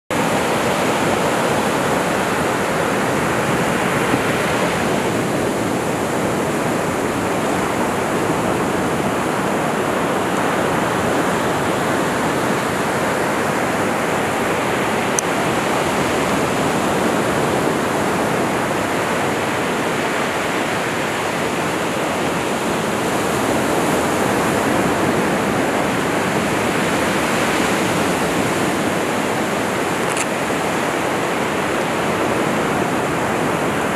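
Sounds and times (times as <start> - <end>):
ocean surf breaking: 0.1 - 33.9.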